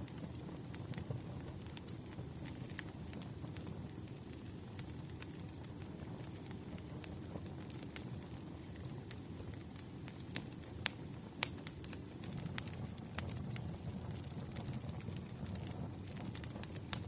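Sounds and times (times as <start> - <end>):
burning firewood crackling: 0.0 - 17.0.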